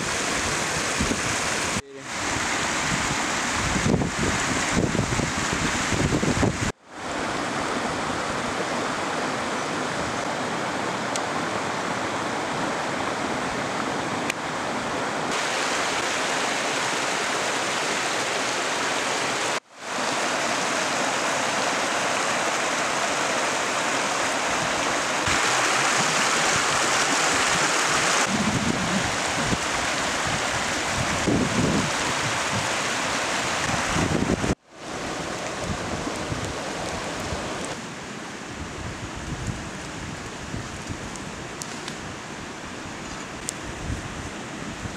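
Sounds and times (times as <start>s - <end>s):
stream flowing over stones: 0.0s - 37.8s.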